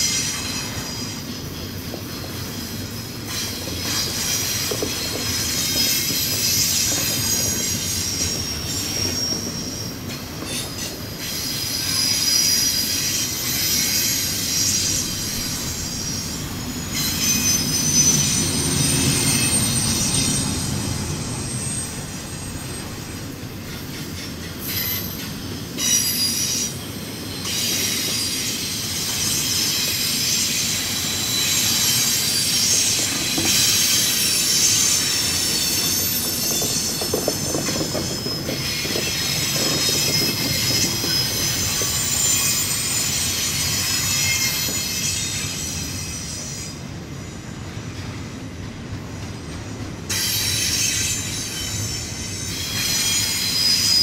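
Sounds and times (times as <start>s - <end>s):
high-pitched wheel squeal: 0.0s - 46.8s, 50.1s - 54.0s
clickety-clack at rail joints: 0.0s - 54.0s
train wheels rumbling: 0.0s - 54.0s.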